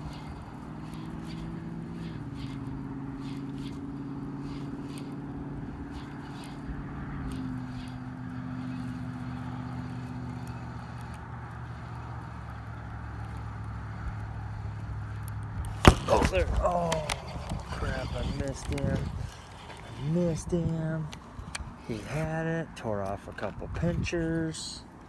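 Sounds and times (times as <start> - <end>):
vehicle engine running: 0.0 - 22.2.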